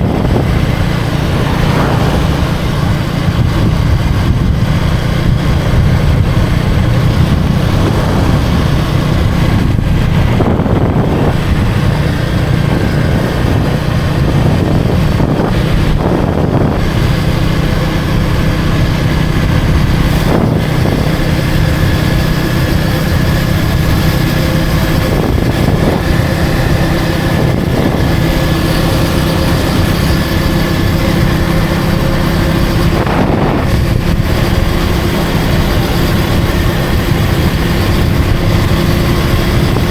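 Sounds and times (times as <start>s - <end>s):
motorcycle engine rumbling: 0.0s - 39.9s
passing traffic: 0.0s - 39.9s.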